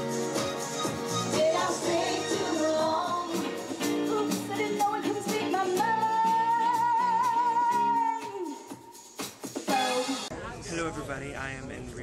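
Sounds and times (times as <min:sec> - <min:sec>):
stage music with singing: 0:00.0 - 0:10.3.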